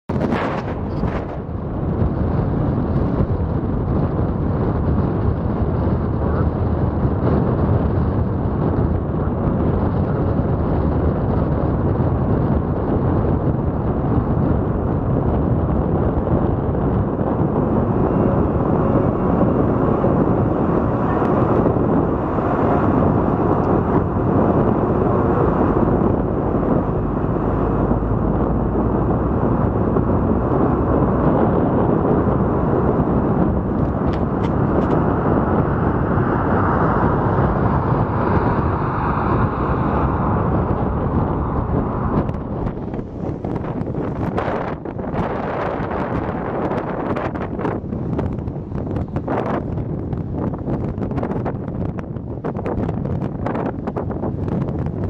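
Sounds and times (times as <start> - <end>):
wind buffeting on microphone: 0.0 - 55.0
road noise from car driving: 0.1 - 55.0.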